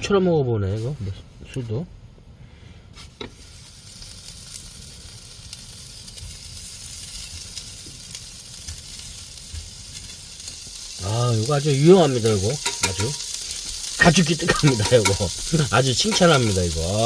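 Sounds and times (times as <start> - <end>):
meat sizzling on grill pan: 3.0 - 17.0.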